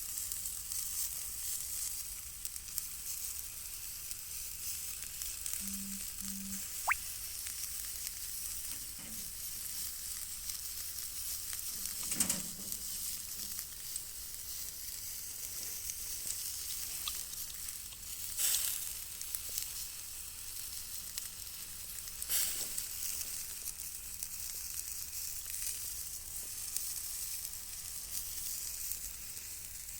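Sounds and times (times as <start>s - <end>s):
crackles and pops: 0.0s - 29.9s
sausages sizzling on a grill: 0.0s - 29.9s.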